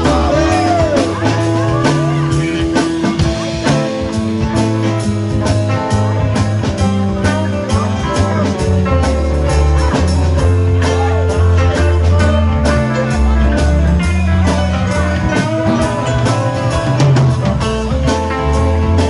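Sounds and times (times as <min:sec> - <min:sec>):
drum kit: 0:00.0 - 0:19.0
electric guitars: 0:00.0 - 0:19.0
keyboard: 0:00.0 - 0:19.0.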